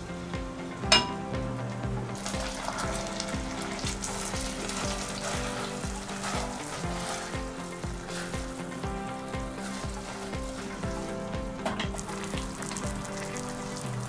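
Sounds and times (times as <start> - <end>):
background music with beat: 0.0 - 14.0
sauce sizzling in frying pan: 0.0 - 14.0
spatula stirring in pan: 2.2 - 13.9.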